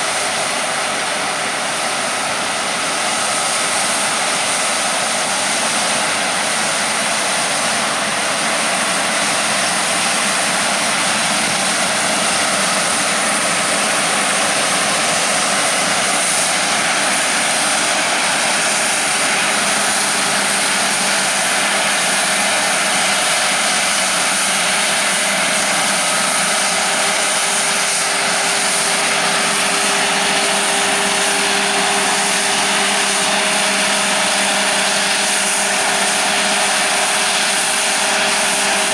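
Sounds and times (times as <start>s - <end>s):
harvest machinery running: 0.0s - 38.9s
low steady engine note: 0.0s - 38.9s.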